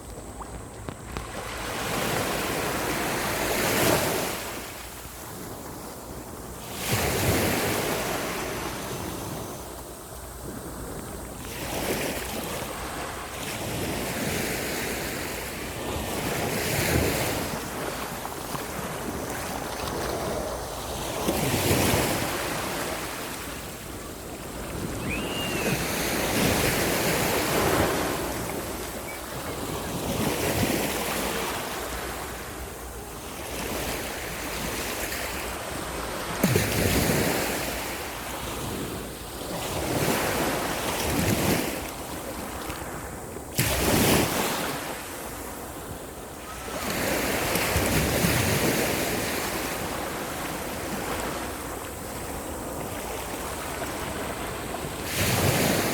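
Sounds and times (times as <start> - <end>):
surf wash: 0.0 - 55.9
waves breaking on beach: 0.0 - 55.9.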